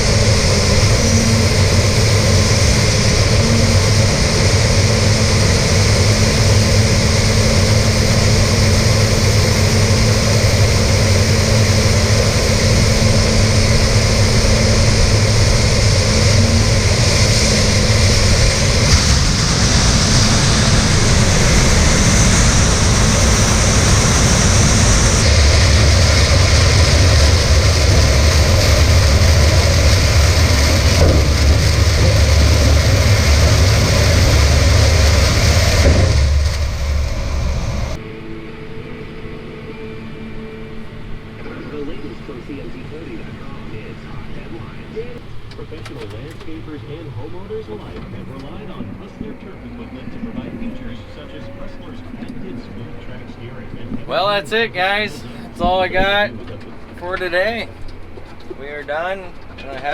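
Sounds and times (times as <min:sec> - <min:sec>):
diesel engine drone of harvest machinery: 0:00.0 - 0:59.9.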